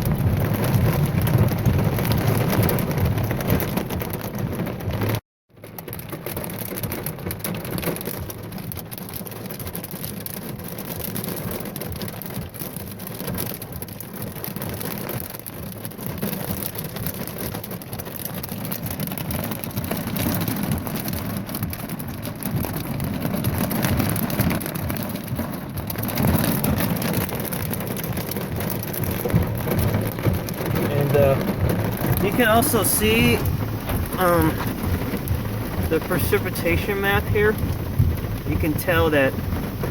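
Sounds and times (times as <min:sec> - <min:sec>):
rain and hail on vehicle roof: 0:00.0 - 0:39.9.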